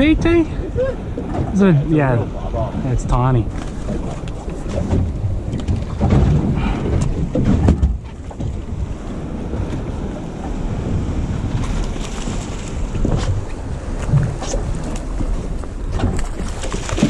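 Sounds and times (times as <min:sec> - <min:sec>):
sea wash around boat: 0:00.0 - 0:17.0
wind buffeting microphone: 0:00.0 - 0:17.0.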